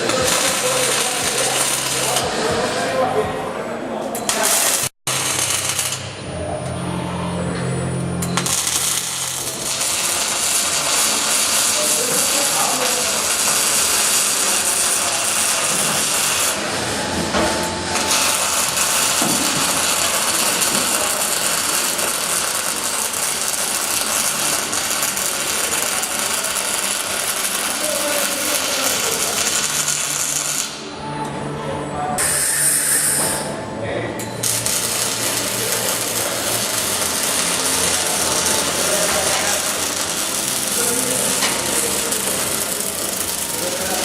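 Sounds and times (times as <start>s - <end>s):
welding arc crackling: 0.0s - 3.0s, 4.2s - 6.4s, 8.0s - 30.8s, 34.2s - 44.0s.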